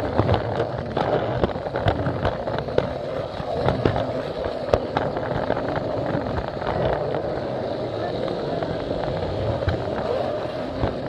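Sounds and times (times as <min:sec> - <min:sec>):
wheels clicking over track joints: 0:00.0 - 0:11.0.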